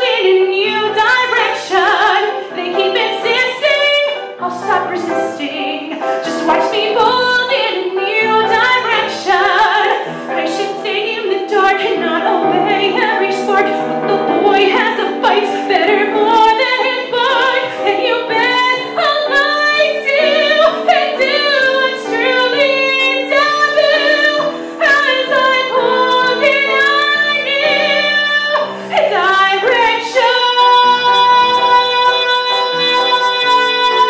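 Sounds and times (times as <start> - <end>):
instrumental accompaniment: 0.0 - 34.0
woman singing with vibrato: 0.0 - 34.0.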